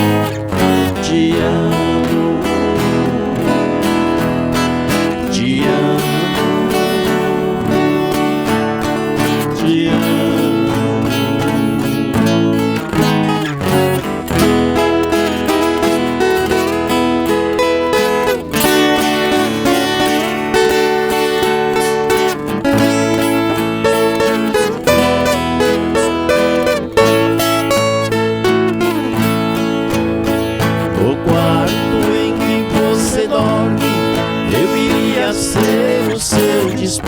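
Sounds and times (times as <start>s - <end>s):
acoustic guitars plucked and strummed: 0.0s - 37.0s.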